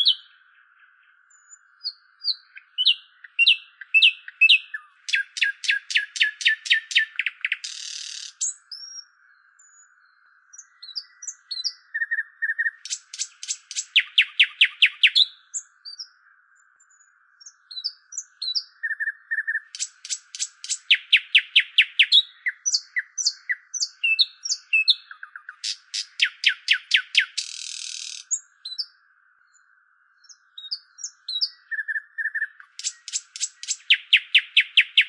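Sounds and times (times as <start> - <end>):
nightingale singing: 0.0 - 35.0.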